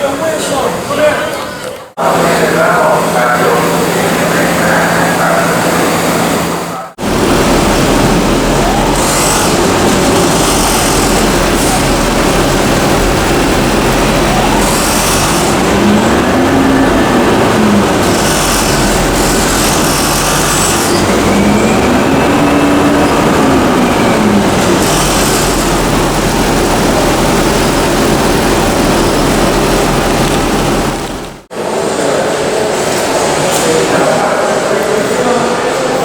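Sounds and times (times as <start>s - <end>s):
subway train in motion: 0.0s - 36.0s.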